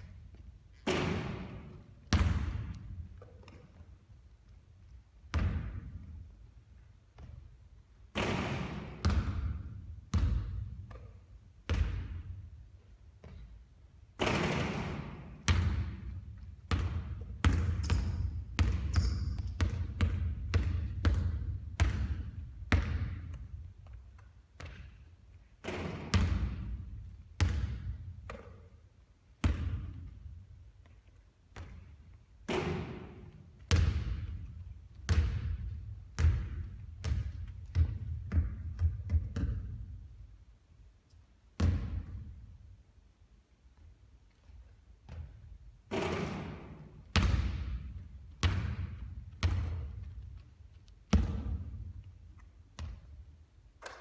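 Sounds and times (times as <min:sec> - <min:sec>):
basketball bouncing on court: 0:00.0 - 0:03.8, 0:05.3 - 0:06.3, 0:07.1 - 0:12.5, 0:13.2 - 0:13.6, 0:14.2 - 0:28.8, 0:29.4 - 0:30.5, 0:31.5 - 0:40.1, 0:41.6 - 0:42.5, 0:45.0 - 0:54.0.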